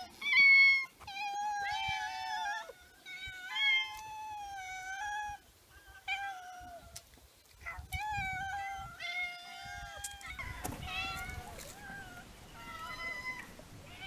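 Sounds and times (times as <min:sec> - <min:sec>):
cats meowing: 0:00.0 - 0:07.0, 0:07.6 - 0:14.0.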